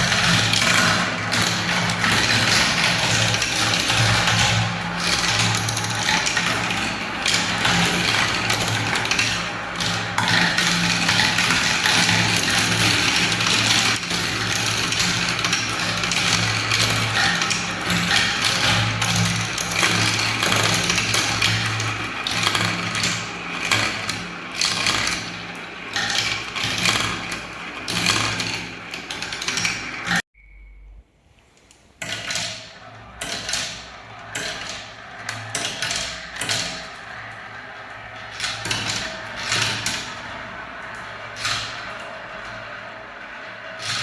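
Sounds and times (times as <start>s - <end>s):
marbles rattling down a ramp: 0.0s - 30.2s, 32.0s - 44.0s.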